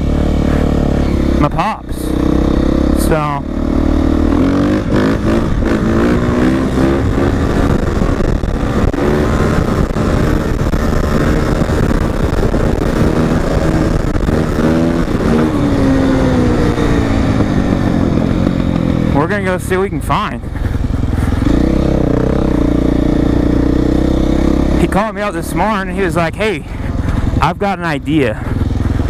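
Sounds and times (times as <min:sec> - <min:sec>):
dirt bike engine running: 0:00.0 - 0:29.0.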